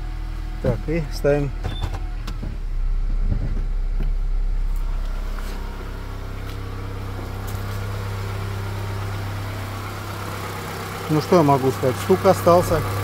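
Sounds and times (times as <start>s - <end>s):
car engine knocking: 0.8s - 13.0s.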